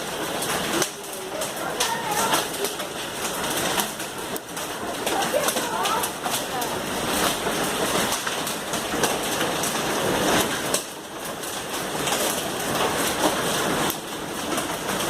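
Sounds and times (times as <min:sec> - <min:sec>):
hail and heavy rain clattering: 0:00.0 - 0:15.0.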